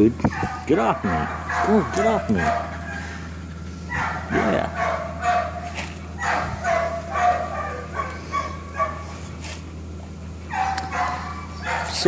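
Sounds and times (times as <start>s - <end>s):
dog whining: 0.2s - 9.3s, 10.4s - 12.0s.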